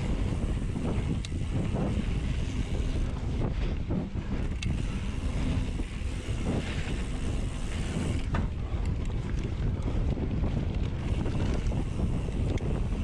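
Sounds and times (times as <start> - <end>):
sharp bike clicks: 0.0 - 13.0
tyres rumbling on dirt trail: 0.0 - 13.0
wind buffeting microphone: 0.0 - 13.0.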